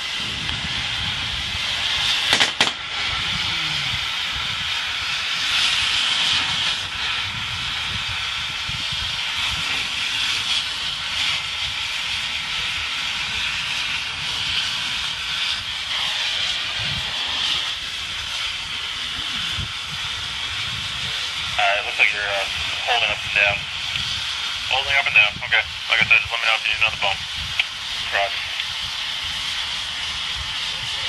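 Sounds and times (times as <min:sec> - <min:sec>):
cutting torch hissing: 0:00.0 - 0:31.0.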